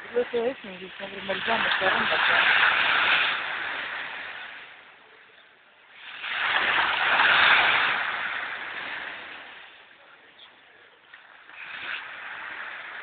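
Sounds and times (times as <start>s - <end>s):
waves washing on pebbly shore: 0.0s - 5.1s, 5.9s - 10.3s, 11.2s - 13.0s.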